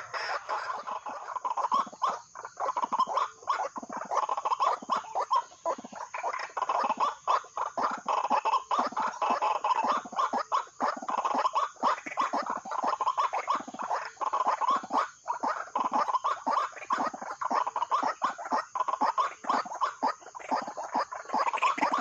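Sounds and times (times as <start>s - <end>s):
waterhen calling: 0.0s - 22.0s.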